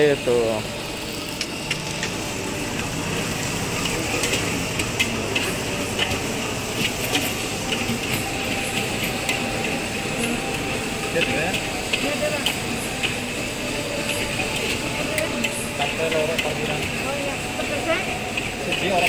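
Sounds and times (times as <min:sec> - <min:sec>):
gas burner hissing: 0:00.0 - 0:19.0
rice frying in a wok: 0:00.0 - 0:19.0
metal utensils clinking: 0:03.6 - 0:19.0.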